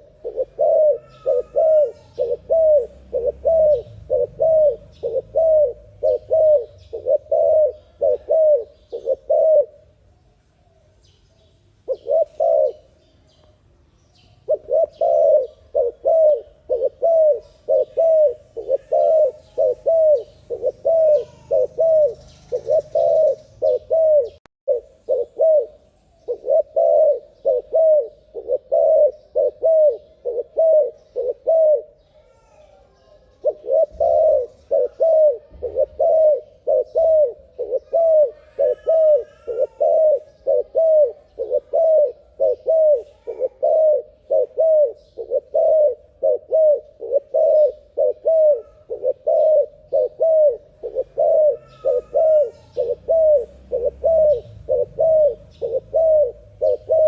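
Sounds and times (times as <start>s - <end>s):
dove cooing: 0.0s - 10.0s, 11.8s - 13.0s, 14.2s - 57.0s
faint bird chirps: 0.0s - 57.0s.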